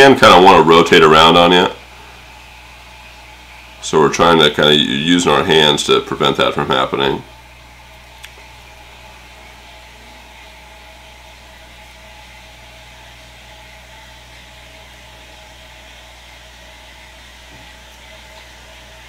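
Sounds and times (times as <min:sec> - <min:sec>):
low hum with hiss: 0:00.0 - 0:19.0.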